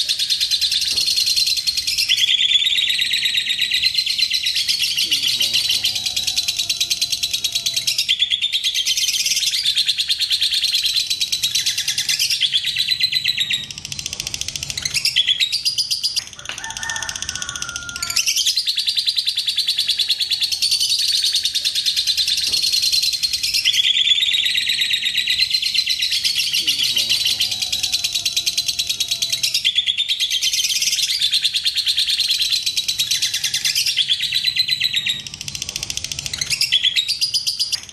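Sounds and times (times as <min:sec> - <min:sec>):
lovebird chattering trill: 0:00.0 - 0:37.9.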